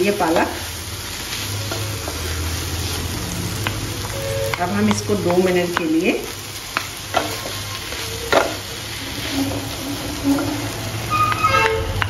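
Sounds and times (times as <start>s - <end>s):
vegetables sizzling: 0.0s - 12.0s
spatulas scraping frying pan: 0.2s - 12.0s.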